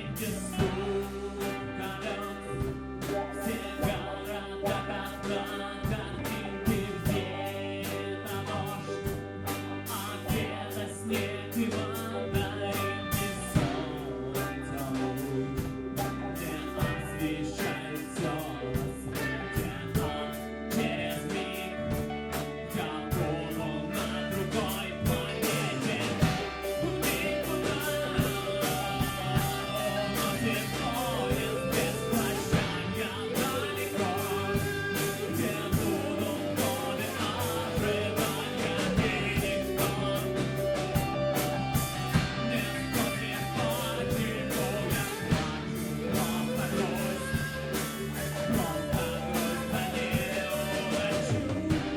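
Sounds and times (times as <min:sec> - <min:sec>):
drums steady beat: 0:00.0 - 0:51.9
guitar: 0:00.0 - 0:51.9
person singing: 0:00.0 - 0:51.9.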